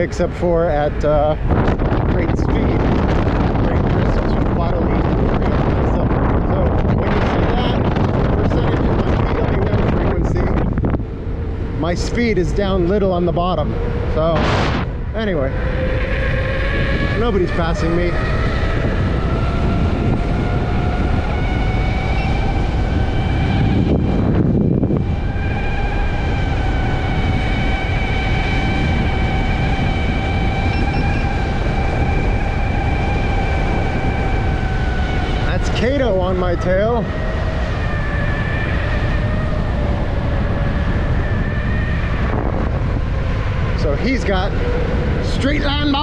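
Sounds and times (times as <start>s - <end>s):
high-pitched motor whine: 0.0s - 46.0s
wind rumble on microphone: 0.0s - 46.0s.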